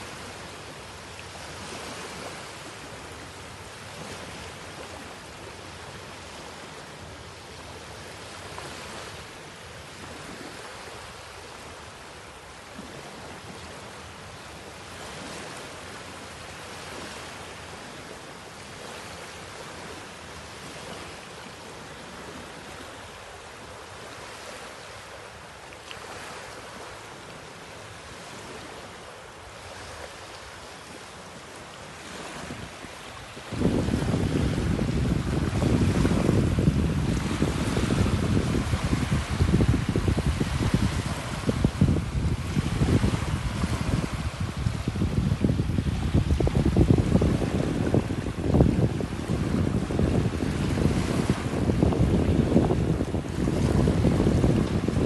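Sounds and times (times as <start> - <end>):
small waves washing on sand: 0.0 - 55.0.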